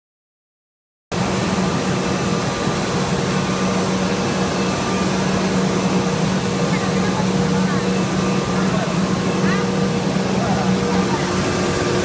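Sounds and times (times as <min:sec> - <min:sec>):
wire drawing machine whirring: 0:01.2 - 0:12.0.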